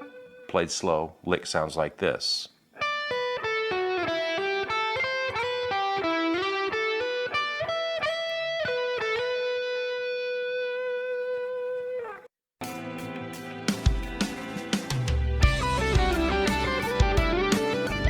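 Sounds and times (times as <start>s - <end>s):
electric guitar lick: 0.0s - 0.5s, 2.8s - 18.0s.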